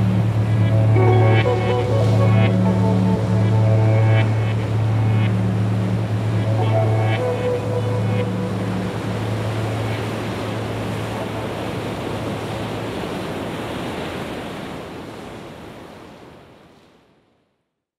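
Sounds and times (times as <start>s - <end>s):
sea waves washing: 0.0s - 17.1s.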